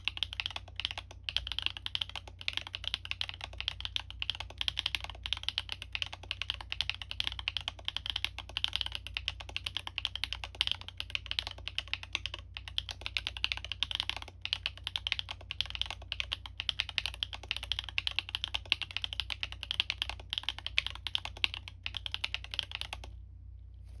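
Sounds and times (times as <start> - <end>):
mechanical keyboard typing: 0.0 - 23.2.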